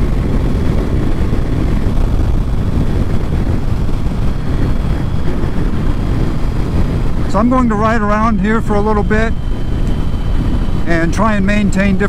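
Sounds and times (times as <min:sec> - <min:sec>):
motorcycle engine rumbling: 0:00.0 - 0:12.0
wind rushing over microphone: 0:00.0 - 0:12.0.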